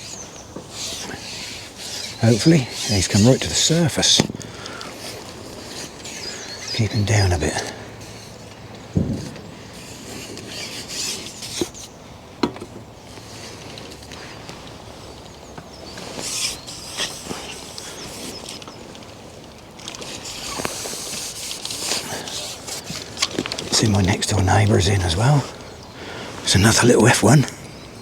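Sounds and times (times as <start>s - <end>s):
fishing pole clicks and rustles: 0.0s - 6.7s, 7.9s - 25.0s
outdoor lakeside background: 0.0s - 28.0s.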